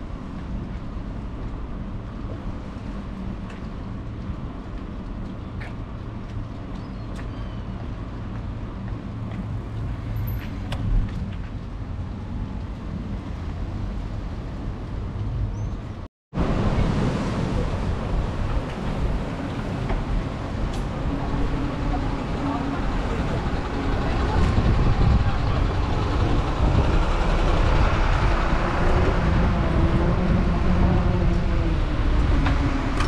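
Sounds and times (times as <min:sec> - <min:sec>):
bicycle road noise: 0:00.0 - 0:33.0
wind rumble: 0:00.0 - 0:33.0.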